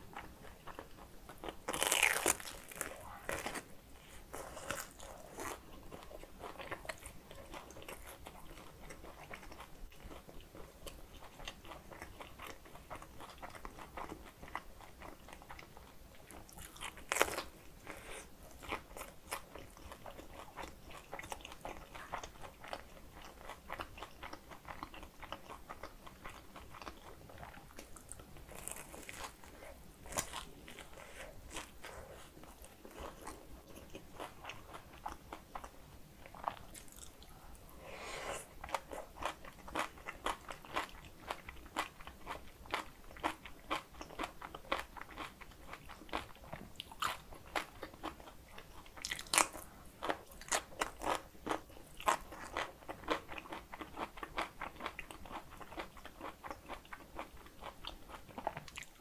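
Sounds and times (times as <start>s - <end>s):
person chewing crisp dumpling: 0.0s - 59.0s.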